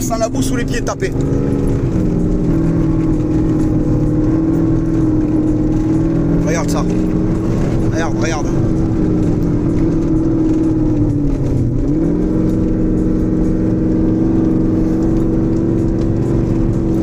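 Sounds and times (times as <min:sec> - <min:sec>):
car engine pulling: 0:00.0 - 0:17.0.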